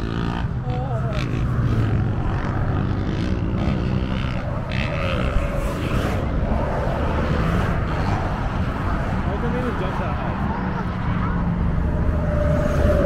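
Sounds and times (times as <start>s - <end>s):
vehicle engines running: 0.0s - 13.0s
wind rumble on microphone: 0.0s - 13.0s.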